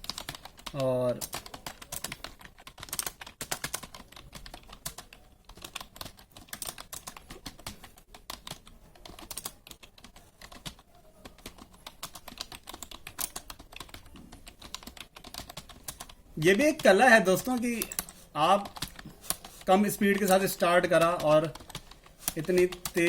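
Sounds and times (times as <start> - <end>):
fast keyboard typing: 0.0 - 23.0.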